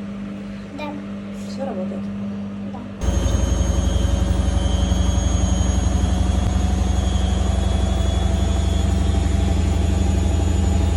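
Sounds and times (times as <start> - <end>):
washing machine humming: 0.0 - 10.9.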